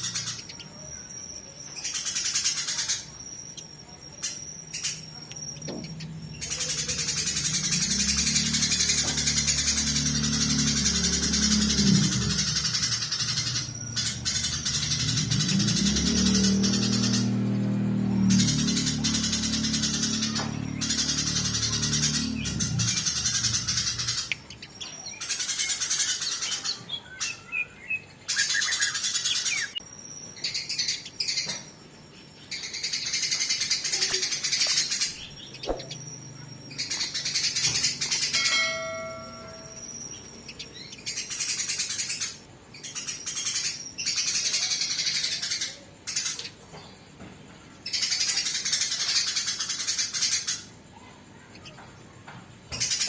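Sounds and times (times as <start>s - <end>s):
sparrows harsh chattering: 0.0s - 53.0s.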